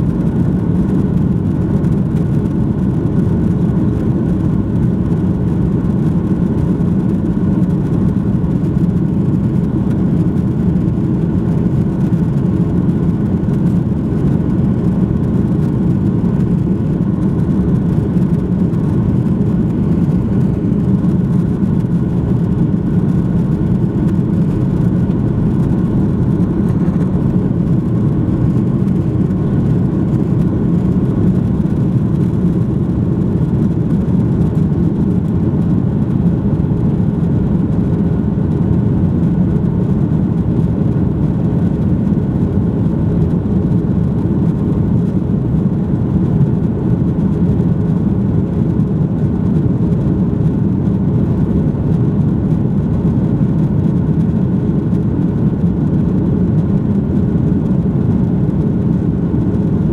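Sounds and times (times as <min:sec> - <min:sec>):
jet engines rumbling with whine: 0:00.0 - 0:59.9.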